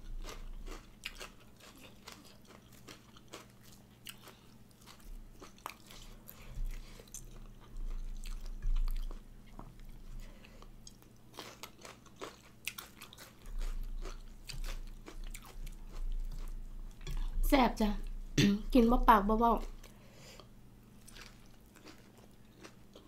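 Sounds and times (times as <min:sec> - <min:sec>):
chewing and crunching: 0:00.0 - 0:17.4, 0:19.6 - 0:23.0.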